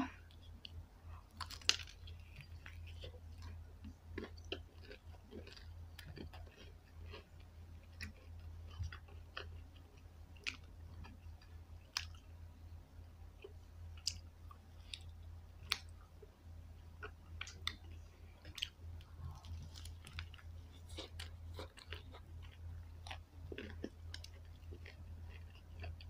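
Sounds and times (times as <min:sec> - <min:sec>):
chewing crispy chicken crunches: 0:00.4 - 0:12.3, 0:17.0 - 0:26.0.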